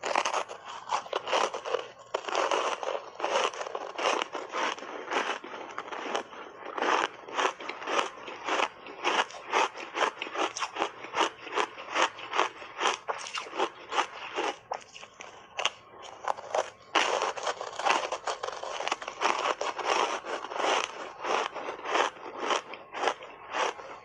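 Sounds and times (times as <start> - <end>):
chewing crunchy ice: 0.0 - 24.0.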